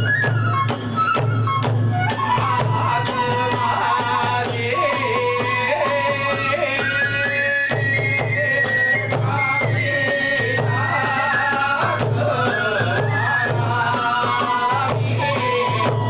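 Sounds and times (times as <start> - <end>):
taiko drum beats: 0.0 - 6.4, 7.7 - 16.0
bamboo flute melody: 0.0 - 16.0.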